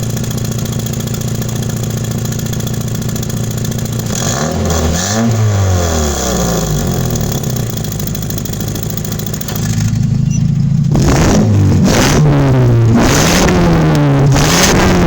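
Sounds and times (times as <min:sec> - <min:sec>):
car engine and exhaust revving: 0:00.0 - 0:15.0.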